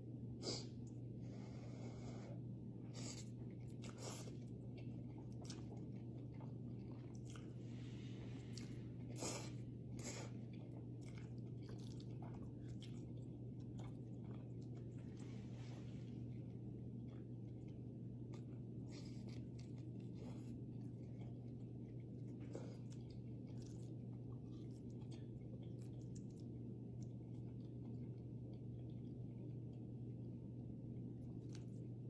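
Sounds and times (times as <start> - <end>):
low hum: 0.0 - 32.0
person chewing noodles: 2.0 - 32.0.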